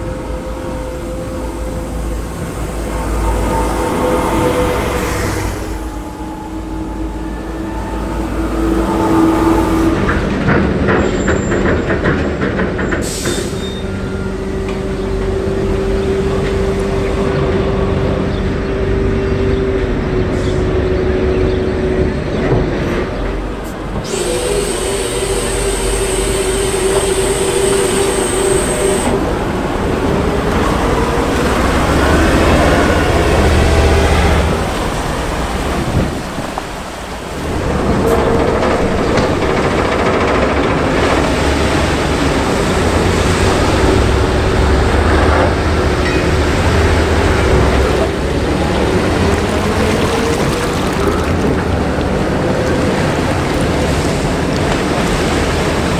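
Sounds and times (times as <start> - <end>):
diesel engines running under load: 0.0 - 55.9.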